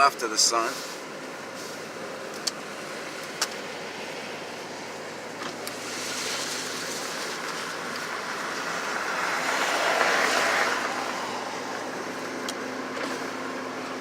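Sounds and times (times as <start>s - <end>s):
road and tyre noise: 0.0s - 14.0s.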